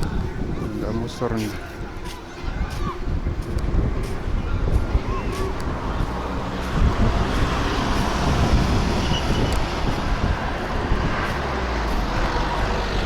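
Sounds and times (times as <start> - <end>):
road traffic noise: 0.0 - 13.0
wind rumbling on microphone: 0.0 - 13.0.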